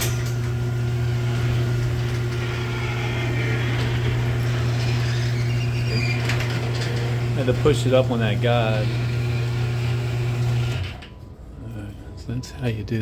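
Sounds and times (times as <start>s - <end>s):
garage door opener humming: 0.0s - 11.6s.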